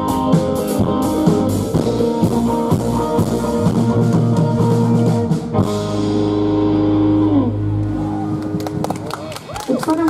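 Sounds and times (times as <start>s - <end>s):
drum kit: 0.0s - 8.9s
bass guitar: 0.0s - 10.0s
electric guitars: 0.0s - 10.0s.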